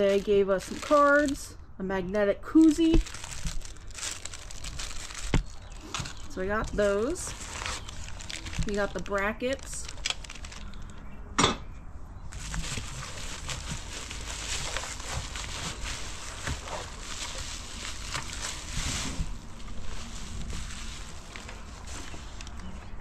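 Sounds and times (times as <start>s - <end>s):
bubble wrap crinkling: 0.0s - 1.5s, 2.6s - 11.0s, 12.3s - 23.0s.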